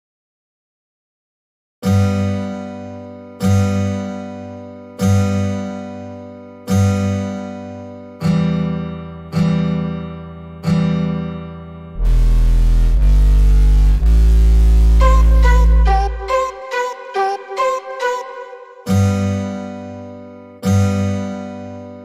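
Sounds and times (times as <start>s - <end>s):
acoustic guitar chords ringing: 1.8s - 22.0s.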